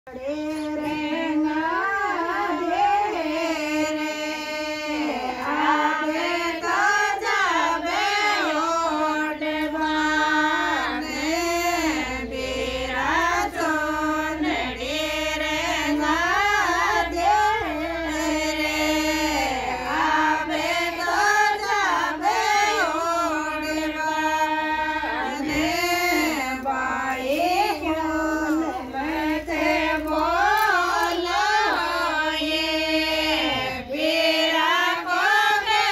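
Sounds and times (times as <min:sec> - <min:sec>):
women singing folk song: 0:00.1 - 0:35.9.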